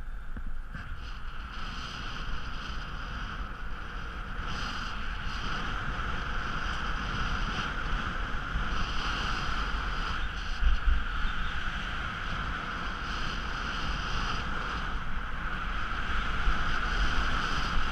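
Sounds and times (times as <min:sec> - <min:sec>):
wind on microphone: 0:00.0 - 0:17.9
skis sliding over snow: 0:00.7 - 0:17.9.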